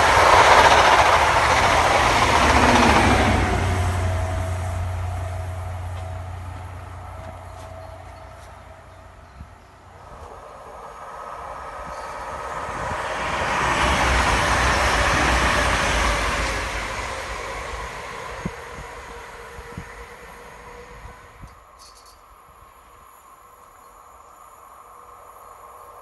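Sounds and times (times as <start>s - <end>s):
diesel train passing at speed: 0.0s - 26.0s.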